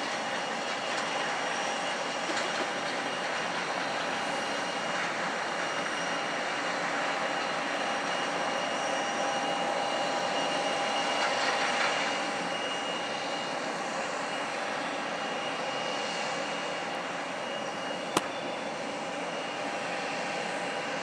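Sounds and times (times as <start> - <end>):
airliner engines running: 0.0 - 21.0.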